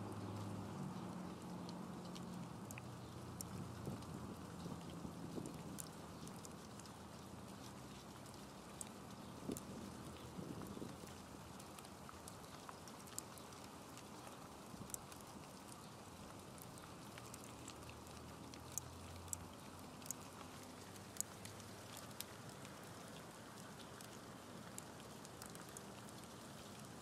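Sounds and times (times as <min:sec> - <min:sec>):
light rain hissing: 0:00.0 - 0:27.0
raindrops ticking: 0:00.0 - 0:27.0.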